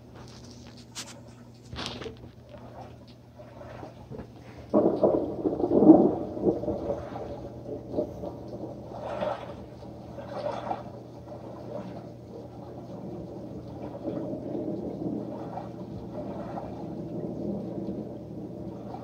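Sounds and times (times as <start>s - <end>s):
thunder rumbles through speakers: 3.6s - 19.0s.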